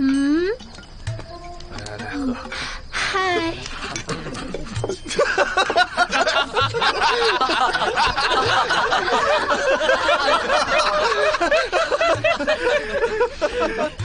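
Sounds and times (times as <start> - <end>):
group of people laughing and chattering: 1.8 - 14.0.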